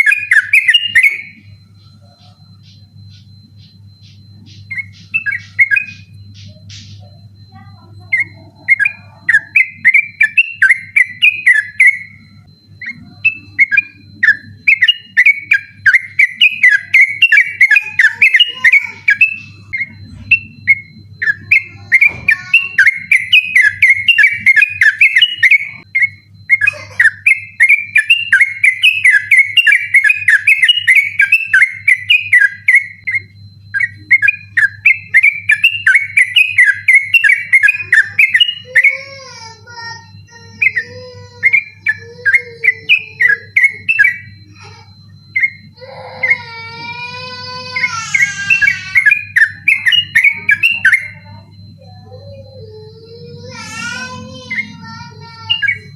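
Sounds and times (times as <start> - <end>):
bird singing chattering song: 0.0 - 55.9
steady low hum: 0.0 - 55.9.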